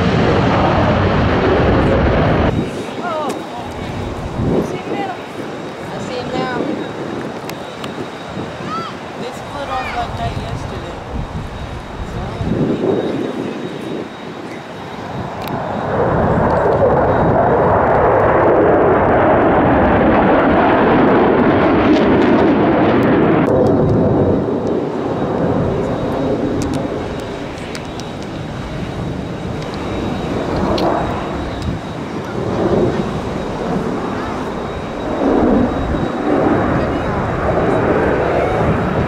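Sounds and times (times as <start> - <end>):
jets roaring overhead: 0.0 - 39.0.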